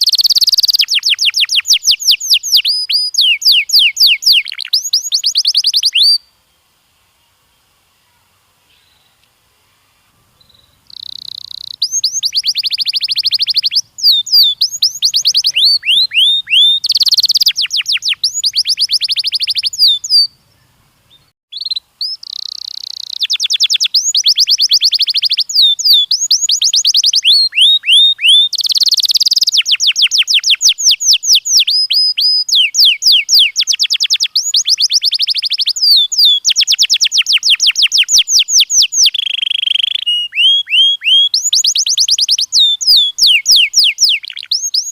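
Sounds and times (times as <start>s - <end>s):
canary singing trills: 0.0s - 6.3s, 10.0s - 44.9s.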